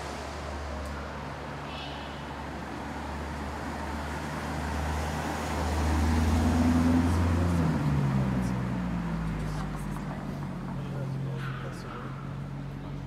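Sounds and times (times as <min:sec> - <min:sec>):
car engine rumble passing: 0:00.0 - 0:13.0.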